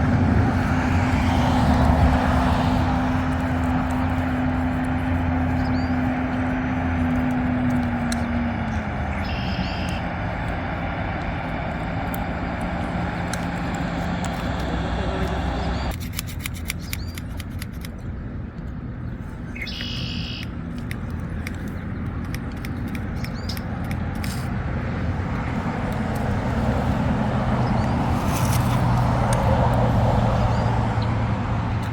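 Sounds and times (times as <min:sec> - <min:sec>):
low engine rumble: 0:00.0 - 0:31.9.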